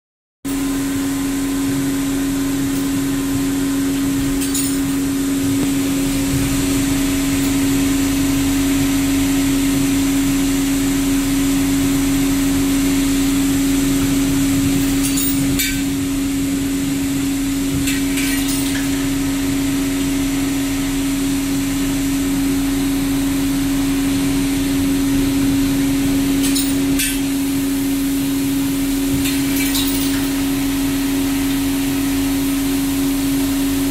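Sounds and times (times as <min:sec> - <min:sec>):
grinding machine motor hum: 0:00.5 - 0:33.9.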